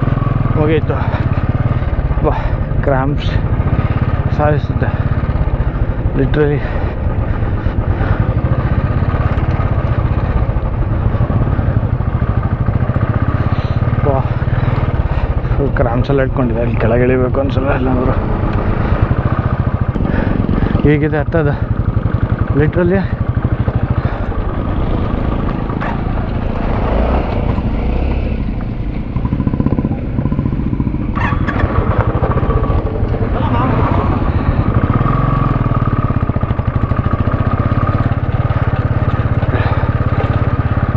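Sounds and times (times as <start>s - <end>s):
motorcycle engine thumping: 0.0s - 40.9s.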